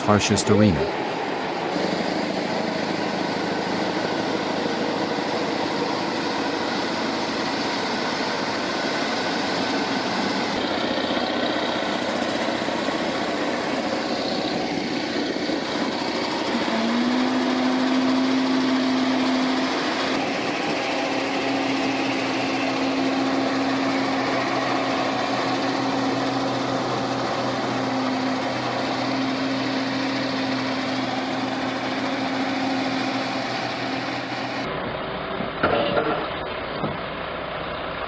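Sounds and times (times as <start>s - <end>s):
heavy truck engine drone: 0.0s - 38.0s.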